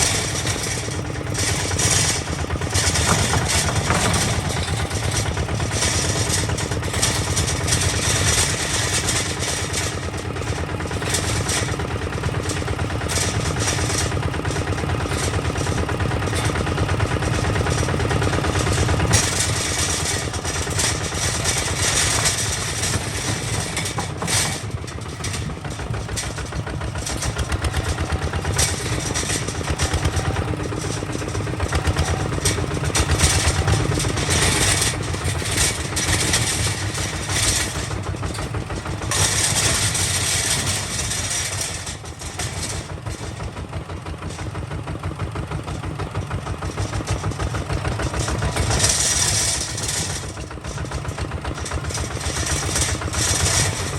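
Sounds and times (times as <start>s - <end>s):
diesel tractor engine chugging: 0.0s - 53.9s.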